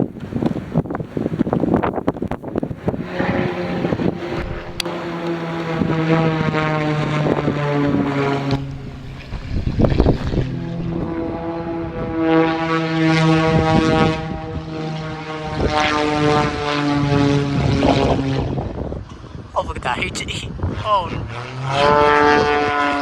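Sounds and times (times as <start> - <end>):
propeller plane engine running hard: 0.0 - 23.0.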